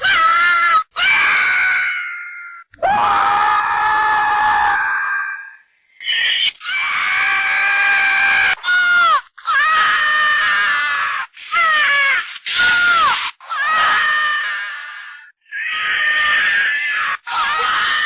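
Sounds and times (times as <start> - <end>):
cartoon squirrel shrieking: 0.0 - 5.4, 6.1 - 18.0.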